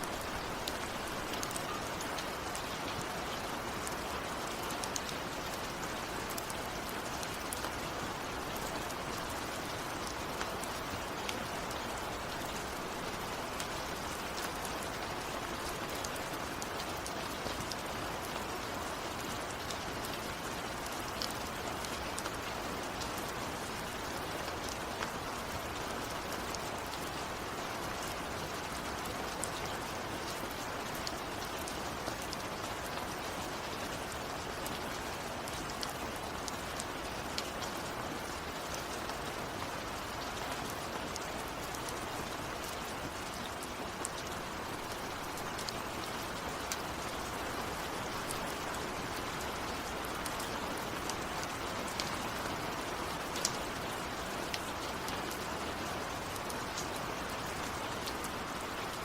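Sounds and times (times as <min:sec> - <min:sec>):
rain falling: 0:00.0 - 0:59.0
raindrops ticking on a surface: 0:00.0 - 0:59.0.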